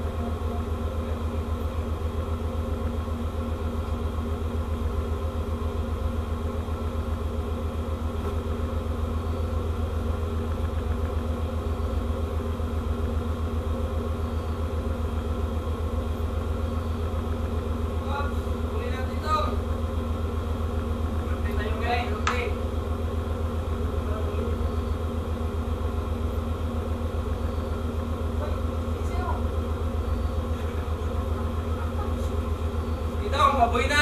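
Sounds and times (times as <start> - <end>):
ship engine machinery running: 0.0 - 34.0.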